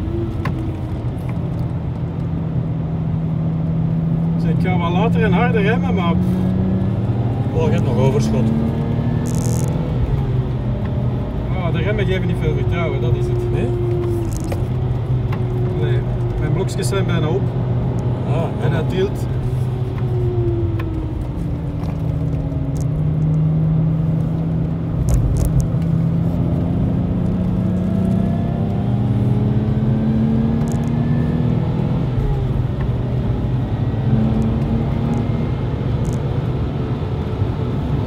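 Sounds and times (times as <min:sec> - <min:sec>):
car engine revving: 0:00.0 - 0:38.0
tyre and road noise: 0:00.0 - 0:38.0.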